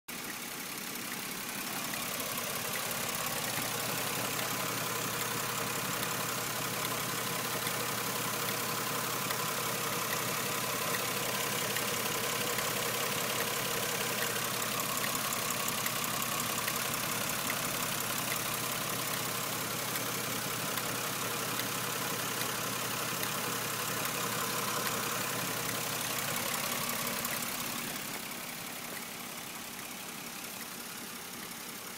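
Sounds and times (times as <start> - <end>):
car engine idling: 0.1 - 31.9
steady engine ticking: 0.1 - 31.9.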